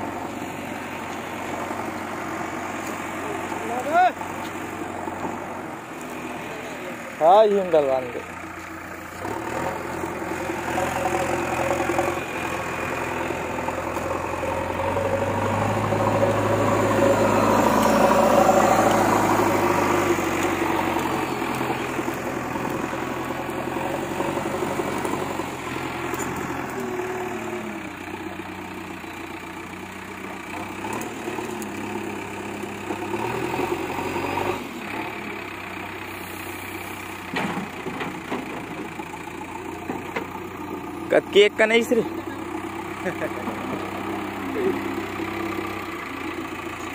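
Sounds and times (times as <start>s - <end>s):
diesel engine under load: 0.0s - 46.9s.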